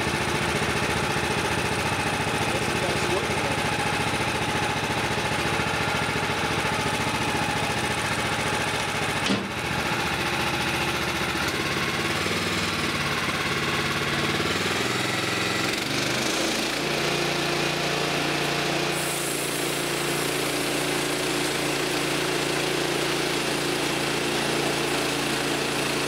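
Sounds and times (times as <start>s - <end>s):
gas engine running: 0.0s - 26.0s.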